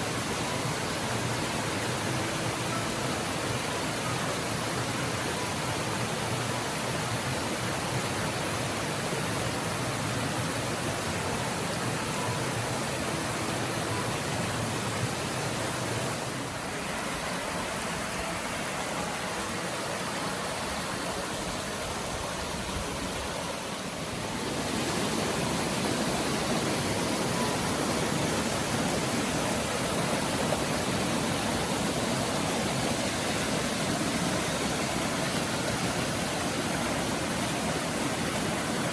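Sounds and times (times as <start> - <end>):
stream cascading over rock: 0.0 - 38.9.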